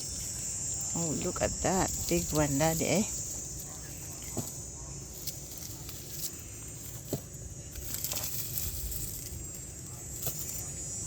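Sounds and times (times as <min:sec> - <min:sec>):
insects chirring: 0:00.0 - 0:11.0
onion tops crackling and rustling: 0:00.0 - 0:11.0.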